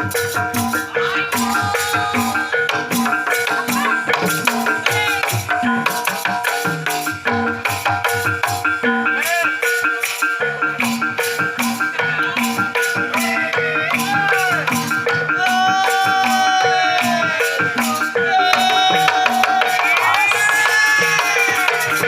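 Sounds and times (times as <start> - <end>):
metallophones and gongs: 0.0 - 22.0.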